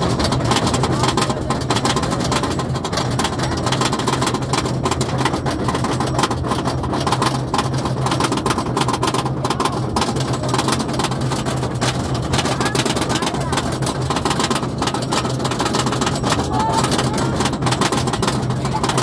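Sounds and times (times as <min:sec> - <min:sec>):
roller coaster chain clicking: 0:00.0 - 0:19.0.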